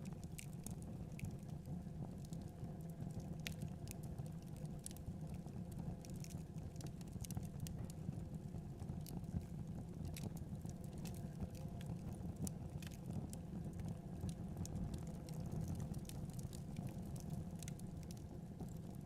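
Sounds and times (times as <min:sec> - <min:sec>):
wood fire crackling: 0:00.1 - 0:19.0.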